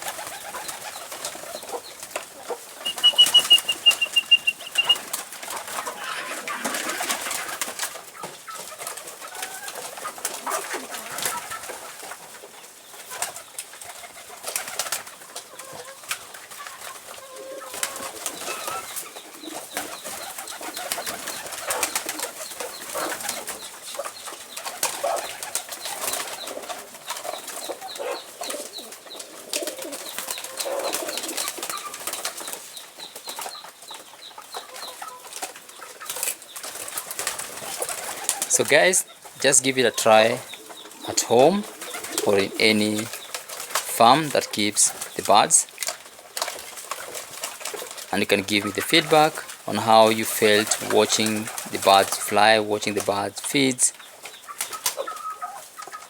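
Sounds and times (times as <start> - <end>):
wings flapping: 0.0 - 55.6
birds clicking and scuffing: 0.0 - 56.0
pigeons cooing: 0.0 - 56.0.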